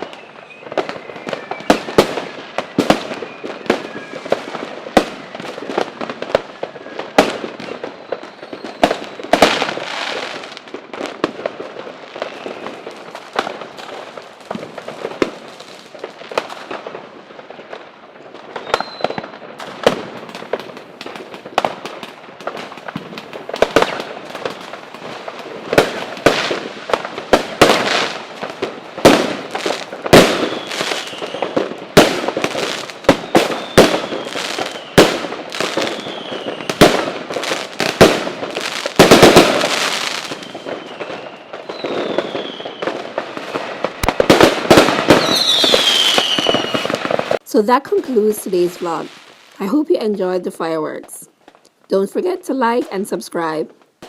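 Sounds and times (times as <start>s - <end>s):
fireworks bangs: 0.0s - 53.8s
fireworks crackling: 0.0s - 54.0s.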